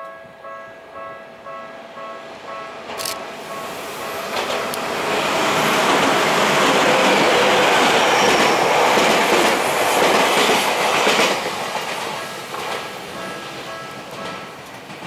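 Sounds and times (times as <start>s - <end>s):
electric trains passing: 0.1s - 15.0s.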